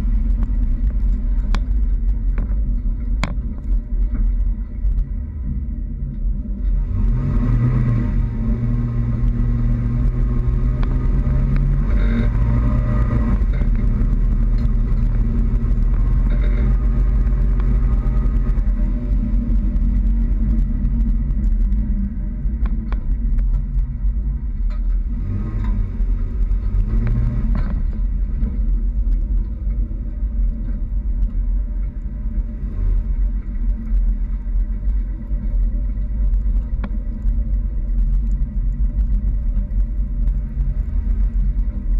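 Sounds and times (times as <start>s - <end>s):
road noise: 0.0s - 41.9s
truck engine rumble: 0.0s - 41.9s.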